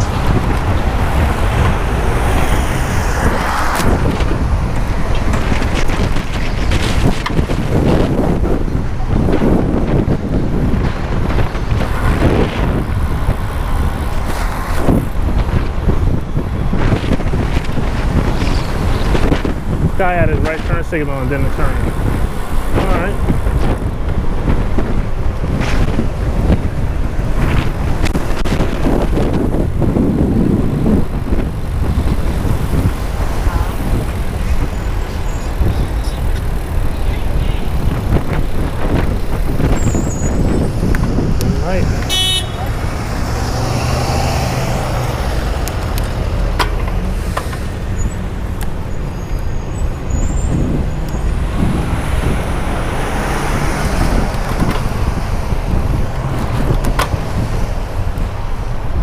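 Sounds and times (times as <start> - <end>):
passing cars and trucks: 0.0 - 59.0
street traffic noise: 0.0 - 59.0
wind buffeting microphone: 0.0 - 59.0.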